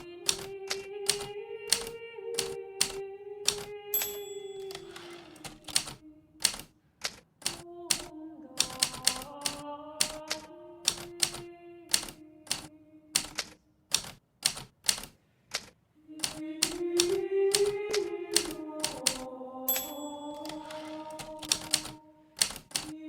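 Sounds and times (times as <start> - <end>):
typewriter key strikes: 0.0 - 17.8, 18.4 - 23.0.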